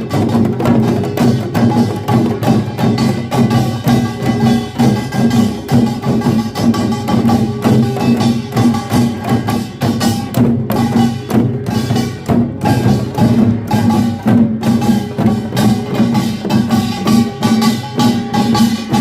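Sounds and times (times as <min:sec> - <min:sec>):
gongs and drums rhythm: 0:00.0 - 0:19.0.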